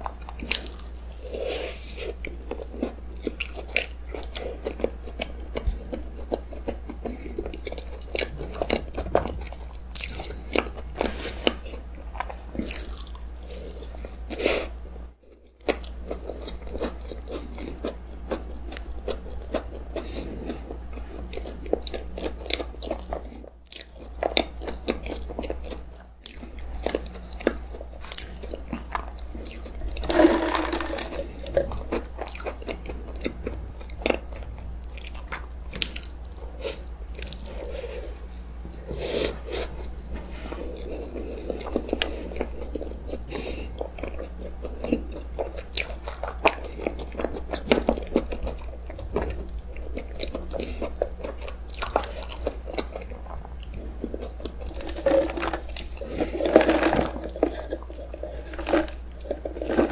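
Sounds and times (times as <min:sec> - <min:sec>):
chewing soft cake: 0:00.0 - 0:59.9.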